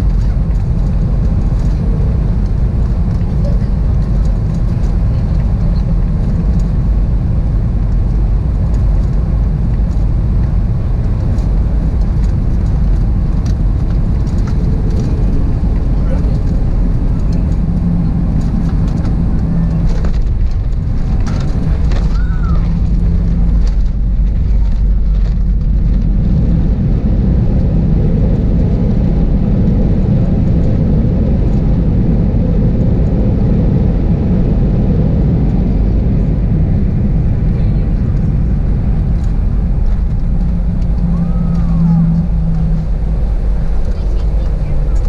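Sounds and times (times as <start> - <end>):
jet engines and rushing air: 0.0 - 45.0.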